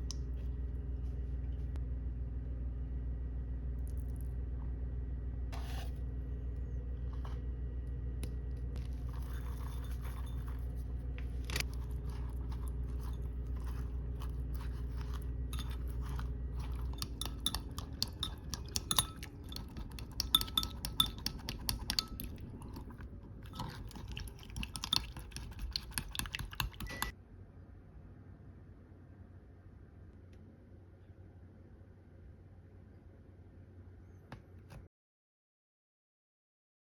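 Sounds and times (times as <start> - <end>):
low hum: 0.0 - 34.2.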